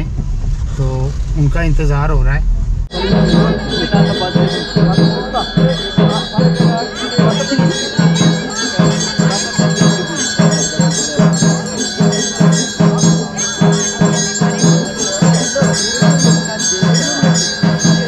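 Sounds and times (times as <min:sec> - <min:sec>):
drum beating steadily: 0:02.8 - 0:18.0
bells and jingling cymbals: 0:02.9 - 0:18.0.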